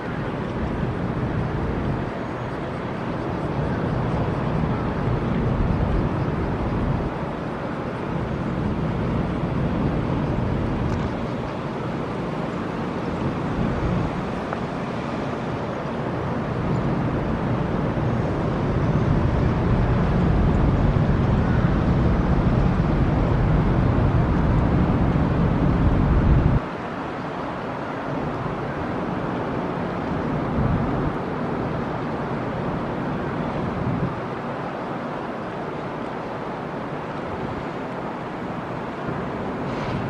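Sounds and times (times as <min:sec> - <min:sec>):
ferry engines rumbling: 0:00.0 - 0:27.1, 0:28.0 - 0:40.0.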